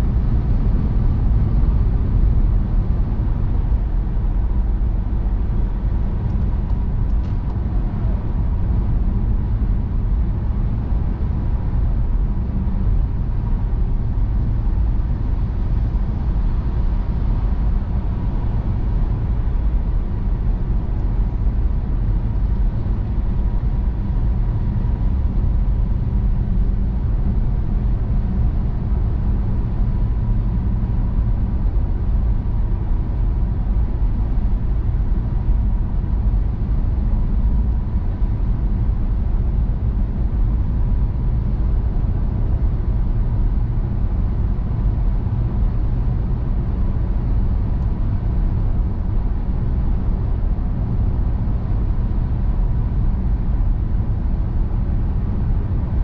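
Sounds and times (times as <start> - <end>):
faint steady whine: 0.0 - 56.0
road and tyre rumble: 0.0 - 56.0.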